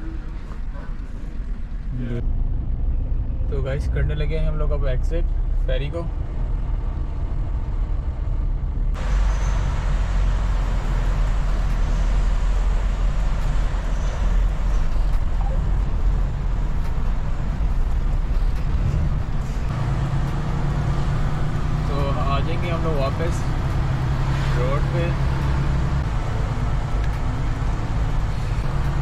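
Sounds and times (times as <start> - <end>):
road noise: 0.0 - 29.0
truck engine rumbling: 0.0 - 29.0.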